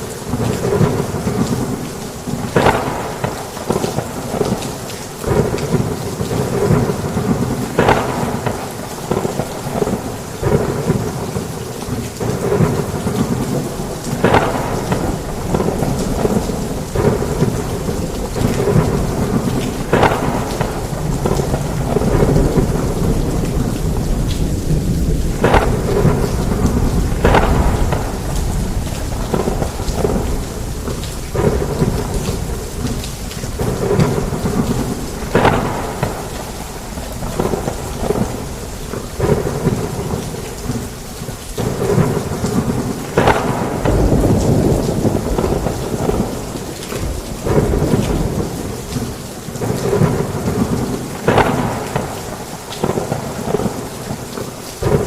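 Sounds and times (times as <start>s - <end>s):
heavy rain: 0.0s - 55.0s
thunder rumbling and cracking: 0.0s - 55.0s.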